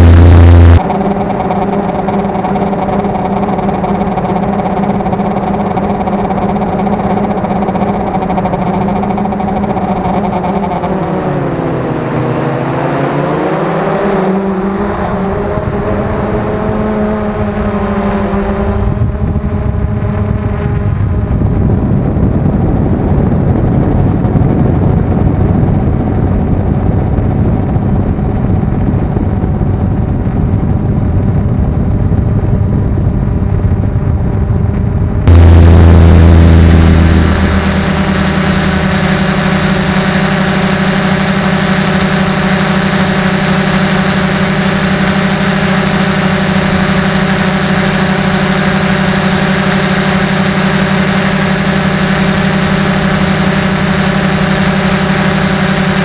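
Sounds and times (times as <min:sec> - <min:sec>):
drone propellers buzzing: 0:00.0 - 0:26.3, 0:32.8 - 0:56.0.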